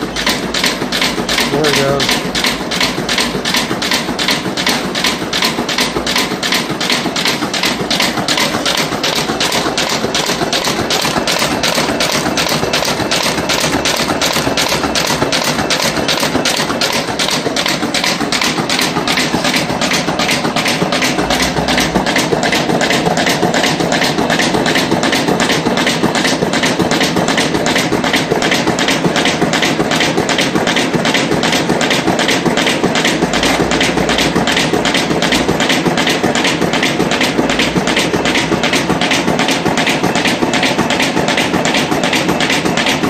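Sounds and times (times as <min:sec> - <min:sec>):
machine whir: 0:00.0 - 0:43.0.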